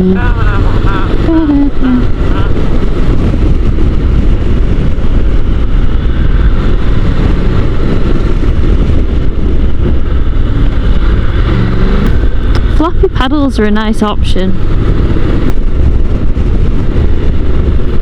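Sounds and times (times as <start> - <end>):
motorcycle engine running: 0.0 - 18.0
wind rushing on microphone: 0.0 - 18.0.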